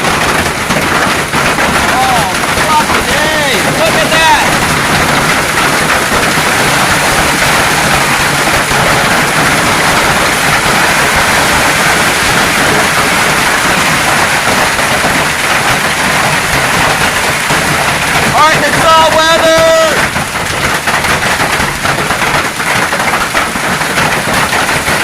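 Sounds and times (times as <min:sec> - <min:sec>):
hail and rain on car roof: 0:00.0 - 0:25.0.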